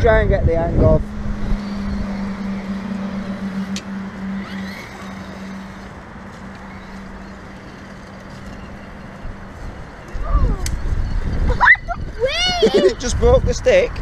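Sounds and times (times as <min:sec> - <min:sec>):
rough noise: 0:00.0 - 0:11.5
small electric motor humming: 0:00.7 - 0:12.9.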